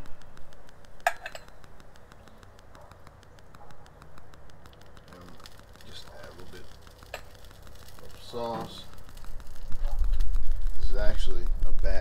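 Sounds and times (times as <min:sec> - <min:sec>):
basting brush dabbing: 0:00.0 - 0:12.0
low steady hum: 0:00.0 - 0:12.0.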